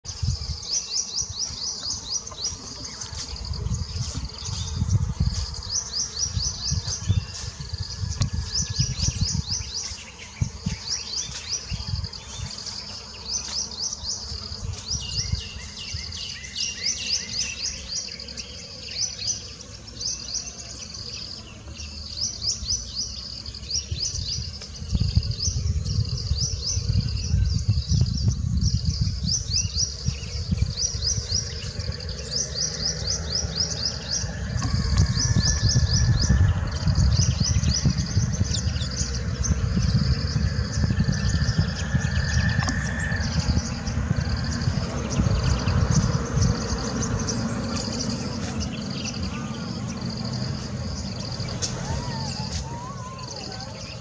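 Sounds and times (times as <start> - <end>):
low rumbling noise: 0.0 - 54.0
high-pitched chirping trills: 0.1 - 54.0.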